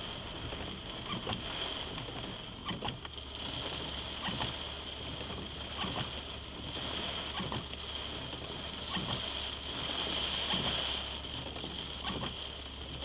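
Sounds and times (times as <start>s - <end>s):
rain on a car roof: 0.0s - 13.0s.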